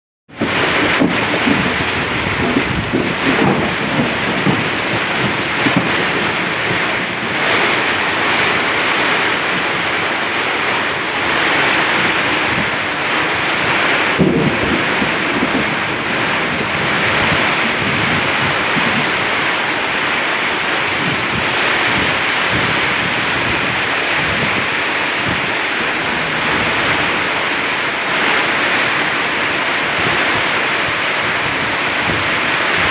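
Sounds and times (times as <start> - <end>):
heavy rain pouring: 0.3 - 32.9
wind gusting on microphone: 0.3 - 32.9.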